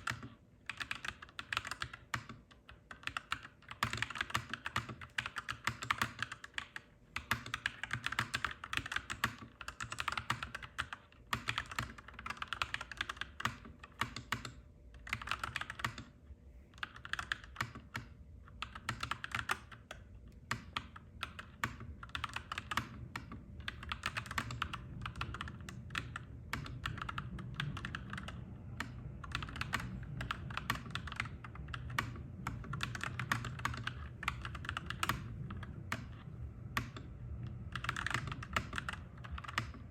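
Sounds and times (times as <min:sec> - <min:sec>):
mechanical keyboard typing: 0:00.0 - 0:16.2, 0:16.8 - 0:39.9.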